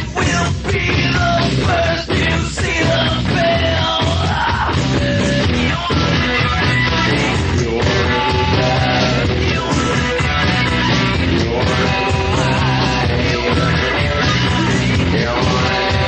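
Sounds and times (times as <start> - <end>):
rock music with yelled vocal: 0.0 - 16.0.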